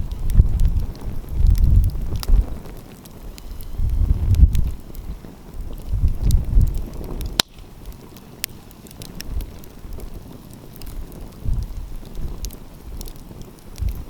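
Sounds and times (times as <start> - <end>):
wind rumbling on microphone: 0.0 - 14.0
wood fire crackling and popping: 0.0 - 14.0.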